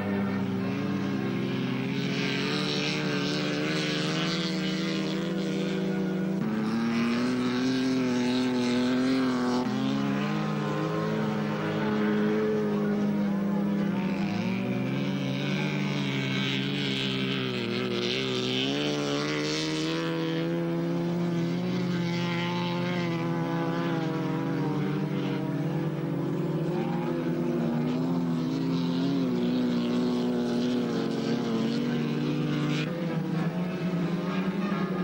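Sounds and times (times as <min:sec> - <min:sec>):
race car engines revving high: 0:00.0 - 0:35.0.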